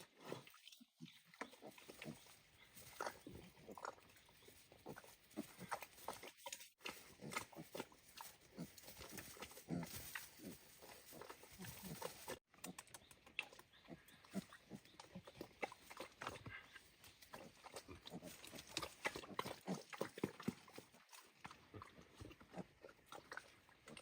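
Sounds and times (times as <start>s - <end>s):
pigs grunting: 0.0s - 12.7s, 13.4s - 24.0s.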